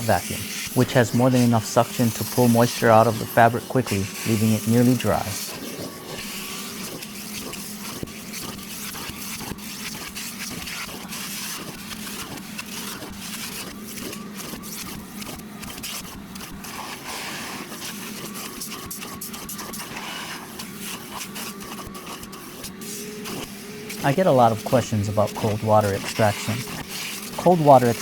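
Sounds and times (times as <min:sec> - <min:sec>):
shop vacuum motor hum: 0:00.0 - 0:28.0
water slurping crackle: 0:00.0 - 0:28.0.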